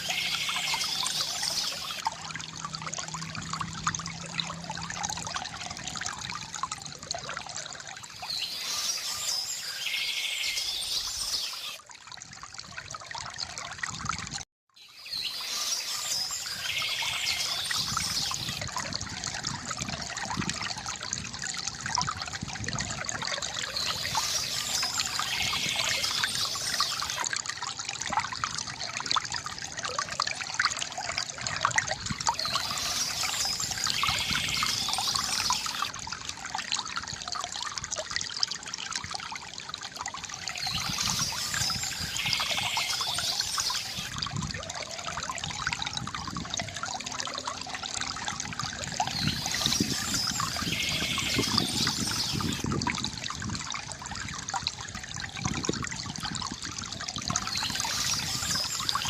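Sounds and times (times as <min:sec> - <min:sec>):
fountain water trickling into basin: 0:00.0 - 0:59.0.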